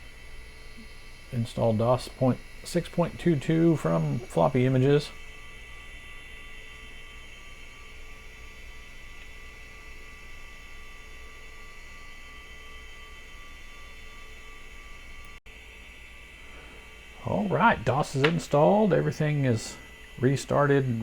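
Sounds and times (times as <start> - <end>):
electrical hum: 0.0 - 21.0
faint high whining tones: 0.0 - 21.0.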